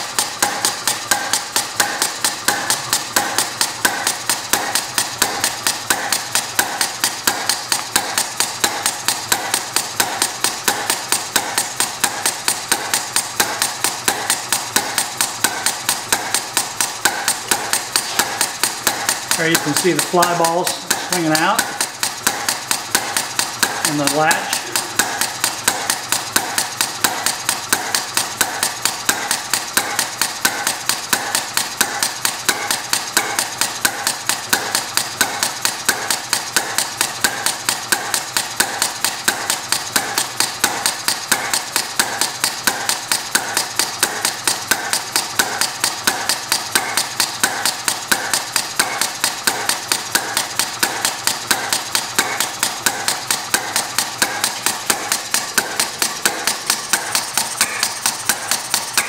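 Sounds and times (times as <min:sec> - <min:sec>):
small engine mechanical clicking: 0:00.0 - 0:59.0.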